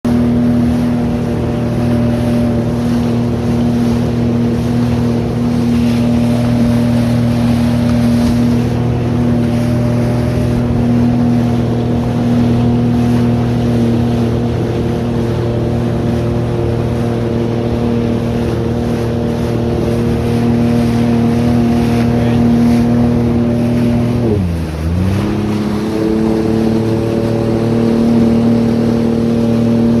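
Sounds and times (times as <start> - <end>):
water and wind rushing: 0.0 - 30.0
watercraft engine roaring: 0.0 - 30.0.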